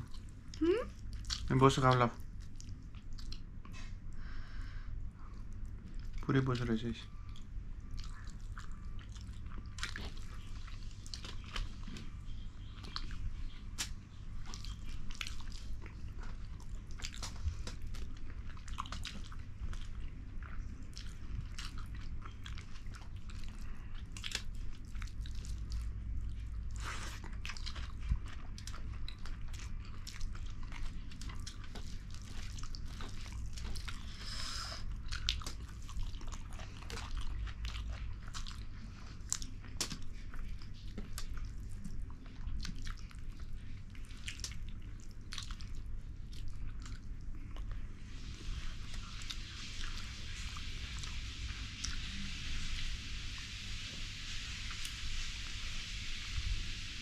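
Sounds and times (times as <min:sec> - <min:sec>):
people chewing and smacking: 0:00.0 - 0:52.4
low steady hum: 0:00.0 - 0:57.0.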